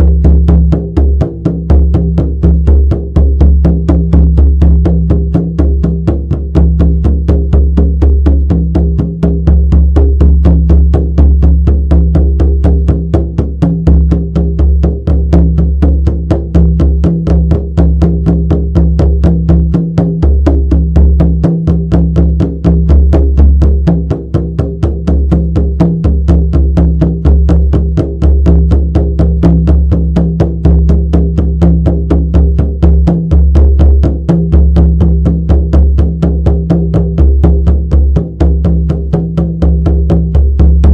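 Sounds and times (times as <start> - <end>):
frame drum beaten fast: 0.0 - 40.9.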